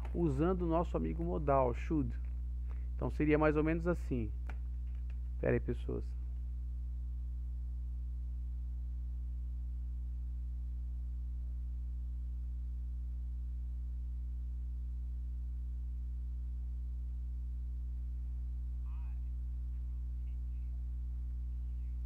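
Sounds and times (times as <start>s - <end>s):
mains hum: 0.0s - 22.0s.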